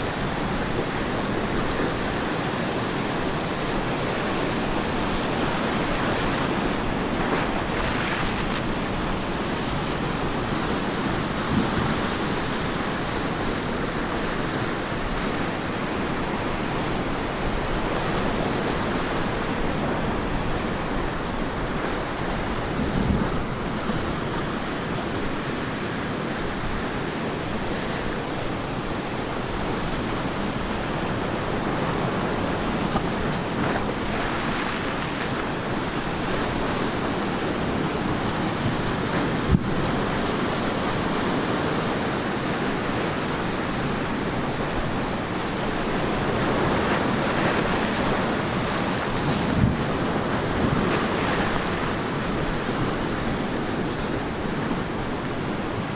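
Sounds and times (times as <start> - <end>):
wind on microphone: 0.0 - 25.4, 27.5 - 55.9
ocean waves breaking: 0.0 - 55.9.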